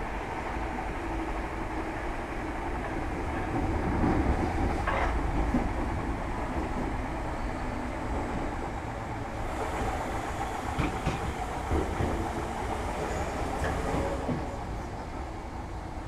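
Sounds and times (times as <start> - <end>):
train wheels on rail: 0.0 - 16.0.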